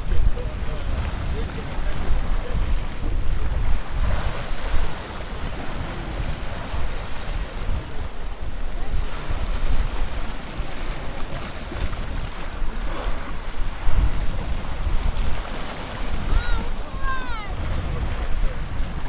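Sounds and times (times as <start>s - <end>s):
waves splashing against concrete: 0.0s - 19.0s
wind rumbling on microphone: 0.0s - 19.0s.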